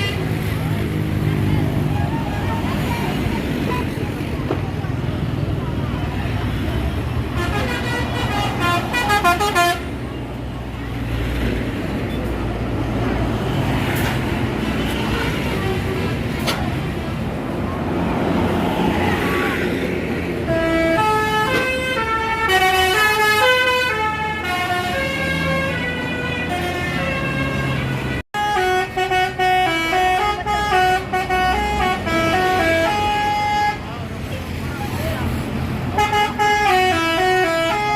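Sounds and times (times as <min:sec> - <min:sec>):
bus engine running: 0:00.0 - 0:37.9.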